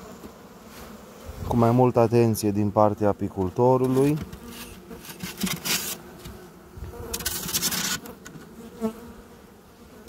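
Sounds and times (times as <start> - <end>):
hive handling noises: 0.0 - 10.0
honeybees buzzing: 0.0 - 10.0.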